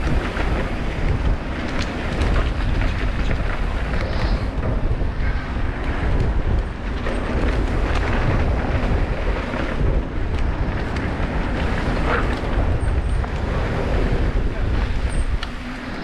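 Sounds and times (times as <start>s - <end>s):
bike clicks and rattles: 0.0s - 16.0s
bike tyres on trail: 0.0s - 16.0s
wind buffeting microphone: 0.0s - 16.0s.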